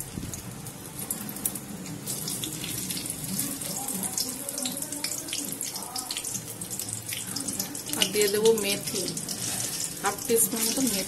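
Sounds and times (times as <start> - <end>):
chilli sizzling in hot oil: 0.0 - 11.0.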